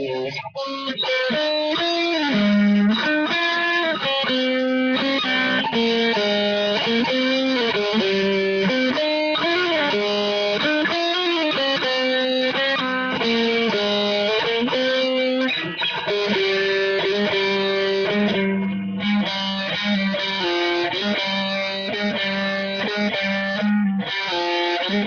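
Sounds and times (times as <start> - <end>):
electric guitar melody: 0.0 - 25.0.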